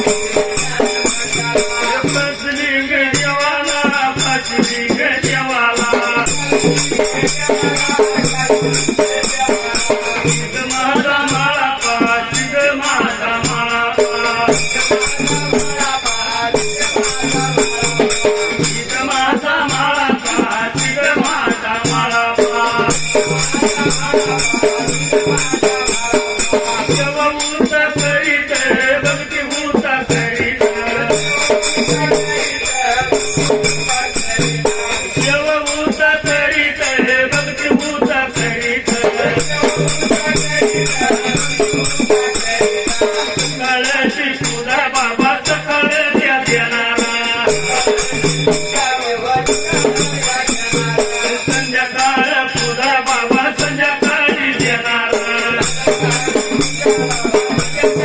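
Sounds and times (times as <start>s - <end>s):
jingling percussion: 0.0s - 58.0s.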